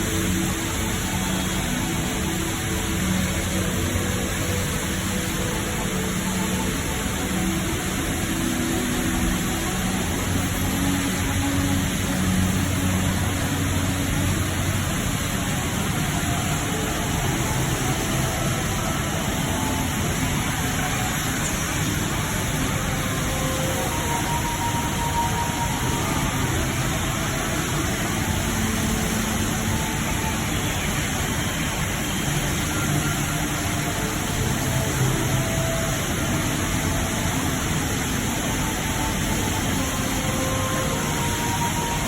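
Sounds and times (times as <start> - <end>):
indoor waterfall rushing: 0.0 - 42.0.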